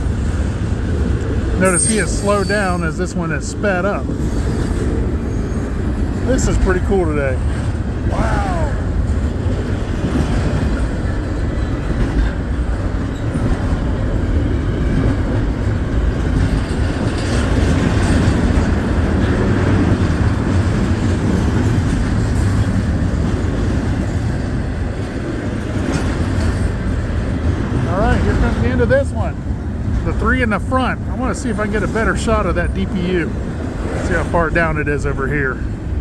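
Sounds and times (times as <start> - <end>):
train wheels on rails: 0.0 - 36.0.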